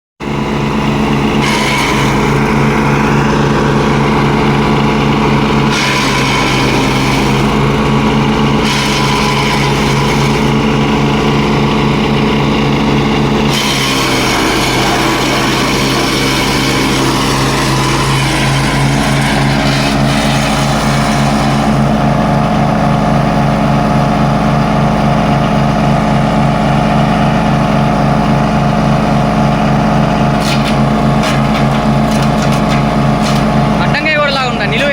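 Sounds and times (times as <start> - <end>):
wood chipper engine running: 0.2 - 34.9.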